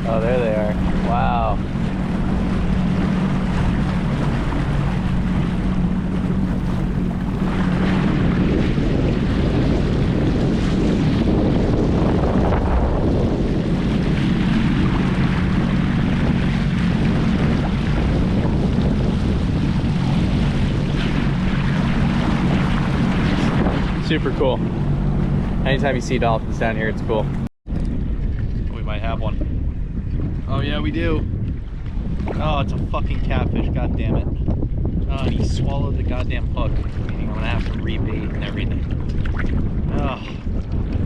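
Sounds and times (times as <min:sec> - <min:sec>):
jet ski engine running: 0:00.0 - 0:41.0
water rushing past hull: 0:00.0 - 0:41.0
wind buffeting microphone: 0:00.0 - 0:41.0.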